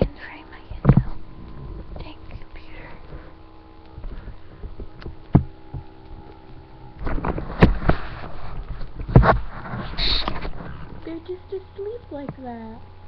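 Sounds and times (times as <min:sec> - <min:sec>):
faint steady hum: 0:00.0 - 0:13.0
rustling close to microphone: 0:00.7 - 0:11.2.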